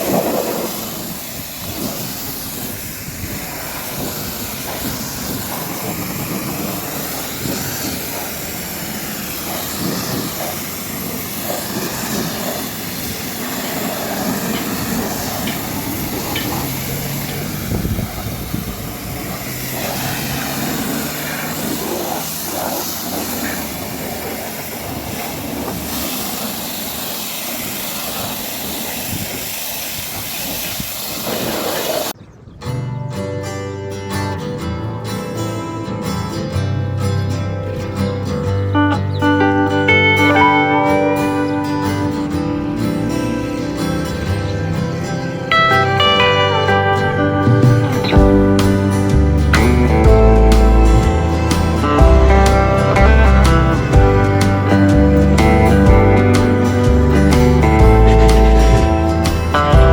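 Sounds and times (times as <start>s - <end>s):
high-pressure water jet hissing: 0.0s - 32.2s, 37.0s - 59.9s.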